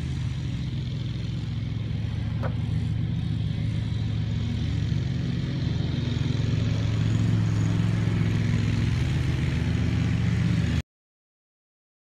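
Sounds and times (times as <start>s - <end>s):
aircraft engine and propeller idling: 0.0s - 10.8s.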